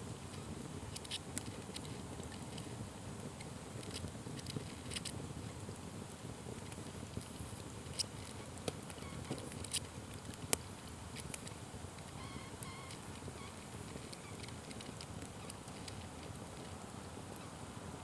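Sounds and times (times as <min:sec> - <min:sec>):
fire crackles and pops: 0:00.0 - 0:18.0
wood fire rumbling: 0:00.0 - 0:18.0.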